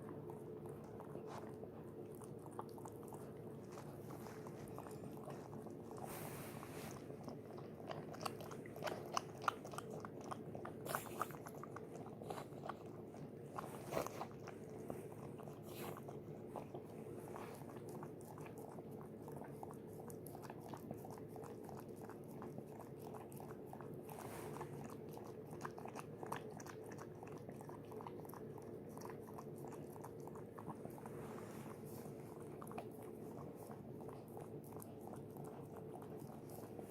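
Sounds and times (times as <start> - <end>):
dog licking and chewing: 0.0 - 36.9.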